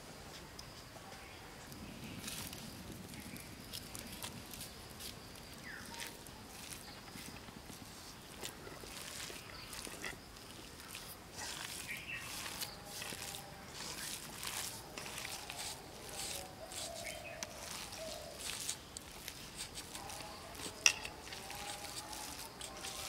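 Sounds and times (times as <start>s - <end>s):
potatoes squishing: 2.1s - 23.0s.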